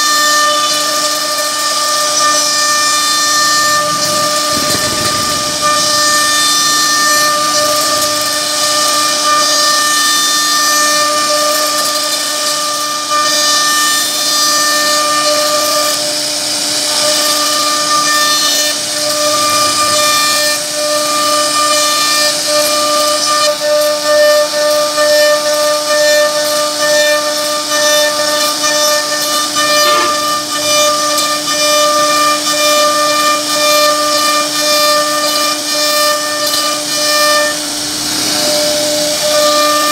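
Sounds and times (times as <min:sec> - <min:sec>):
cutter chipping wood: 0:00.0 - 0:39.9
router spindle whine: 0:00.0 - 0:39.9.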